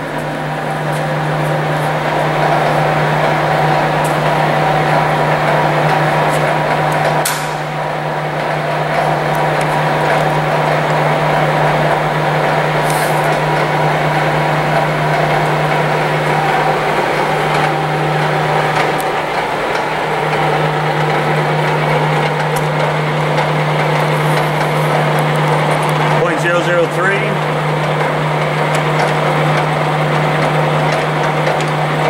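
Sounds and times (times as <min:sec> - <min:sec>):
constant whirring: 0:00.0 - 0:32.0
grinder low hum: 0:00.0 - 0:32.0.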